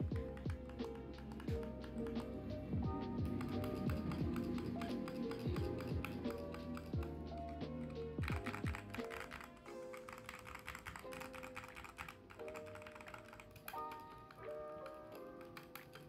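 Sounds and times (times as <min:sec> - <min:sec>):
rapid typing on mechanical keyboard: 0:00.0 - 0:16.0.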